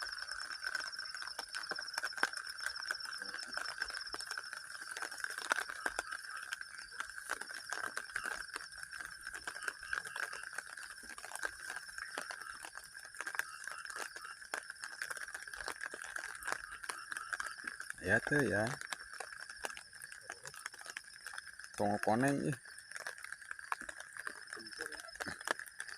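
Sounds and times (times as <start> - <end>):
frogs and insects chorus: 0.0 - 25.9
small ticks and taps: 0.0 - 25.9.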